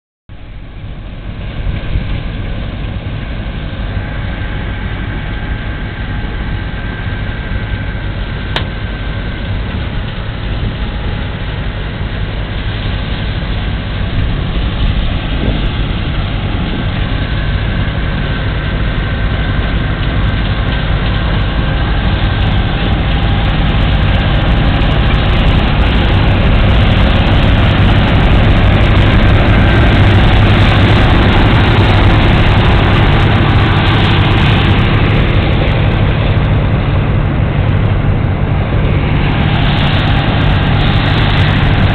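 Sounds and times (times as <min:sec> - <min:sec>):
combine harvester engine droning: 0:00.3 - 0:41.9
faint steady whine: 0:00.3 - 0:41.9.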